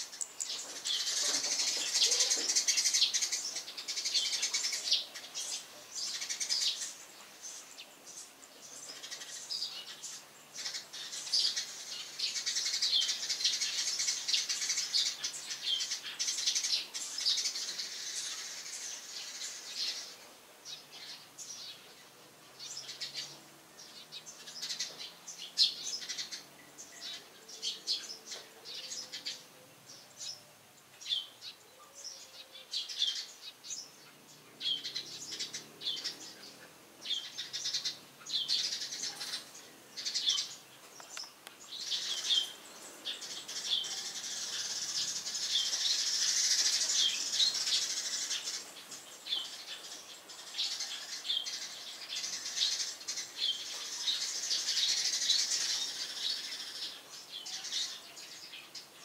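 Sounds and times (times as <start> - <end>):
steady hiss: 0.0 - 24.5, 35.1 - 59.0
sparrows chirping: 0.0 - 59.0.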